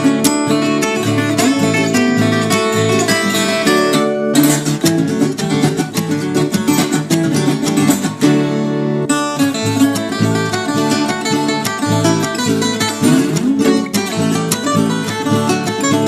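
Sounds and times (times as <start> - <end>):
folk guitar plucked and strummed: 0.0 - 16.0.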